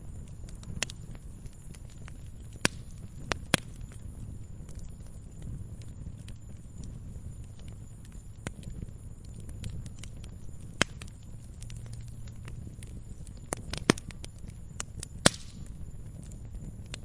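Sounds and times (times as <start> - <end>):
fire crackling in a fireplace: 0.0 - 17.0
sharp fire pops: 0.0 - 17.0.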